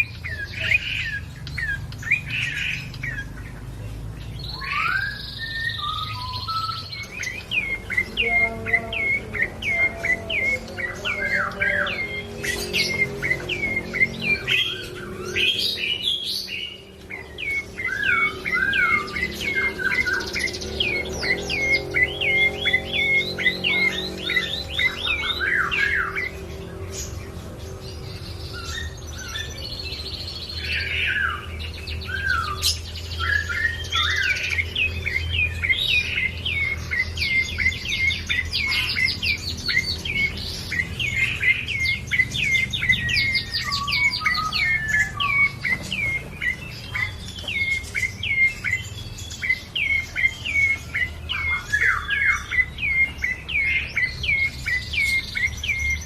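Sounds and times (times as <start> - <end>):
songbird chirping rapidly: 0.0 - 56.0.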